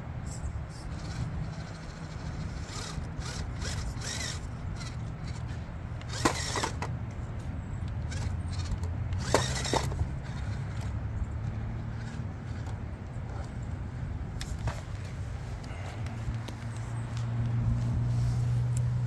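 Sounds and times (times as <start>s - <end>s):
rc truck motor hum: 0.0s - 19.0s.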